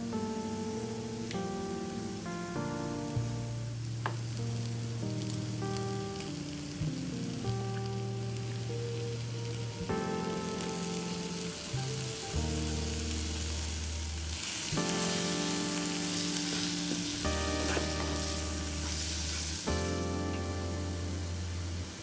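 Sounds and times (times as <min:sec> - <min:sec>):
soft background music: 0:00.0 - 0:22.0
food sizzling in oil: 0:04.2 - 0:22.0.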